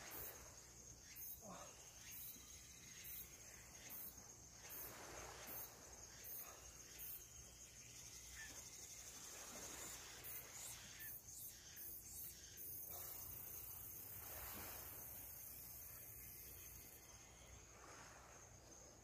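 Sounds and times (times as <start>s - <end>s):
insect chirps pulsing: 0.0s - 19.0s
insect high-pitched trill: 0.0s - 19.0s.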